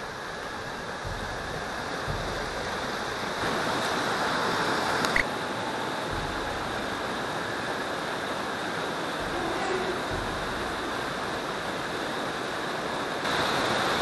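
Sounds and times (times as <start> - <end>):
creek water flowing: 0.0 - 14.0.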